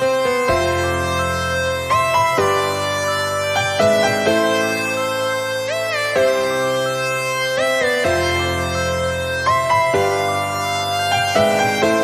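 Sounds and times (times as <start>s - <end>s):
instrumental music with sliding notes: 0.0s - 12.0s.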